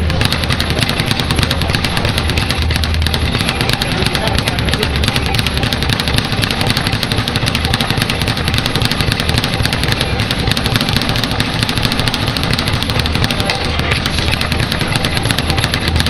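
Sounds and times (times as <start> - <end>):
speed bag rattling: 0.0 - 16.0.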